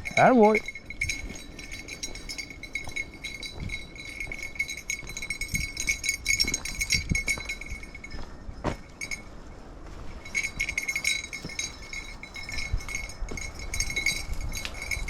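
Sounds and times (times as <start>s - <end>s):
dog collar bell jingling: 0.0s - 9.4s, 10.1s - 15.0s.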